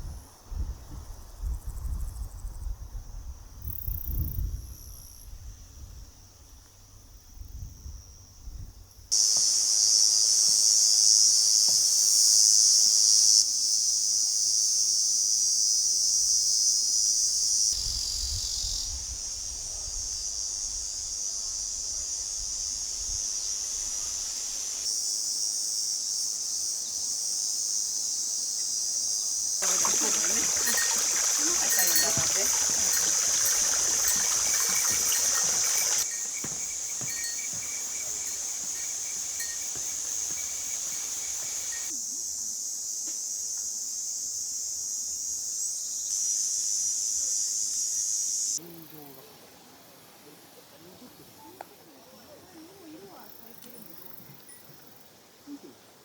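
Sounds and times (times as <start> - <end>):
high-pitched insect chorus: 0.0 - 49.8.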